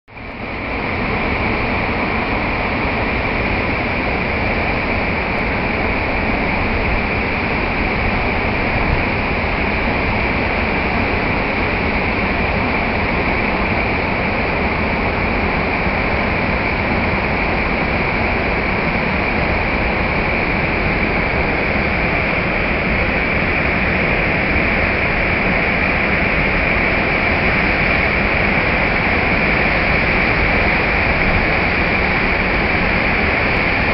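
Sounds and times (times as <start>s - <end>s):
water rushing over a weir: 0.1s - 33.9s.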